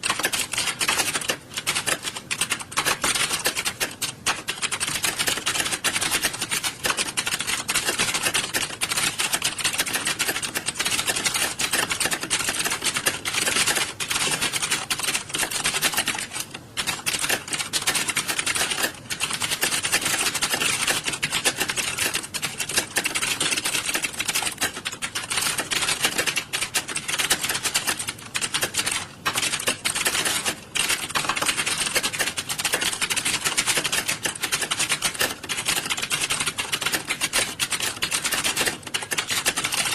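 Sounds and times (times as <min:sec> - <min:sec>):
keyboards typing clatter: 0:00.0 - 0:39.9.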